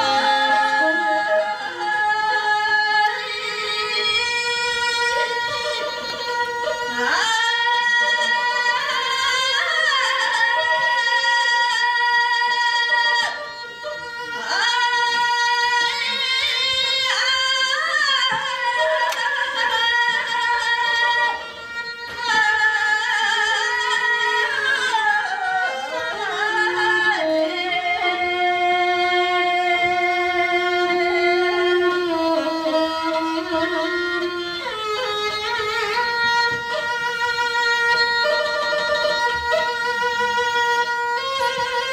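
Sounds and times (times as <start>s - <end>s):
bowed fiddle: 0.0s - 41.9s.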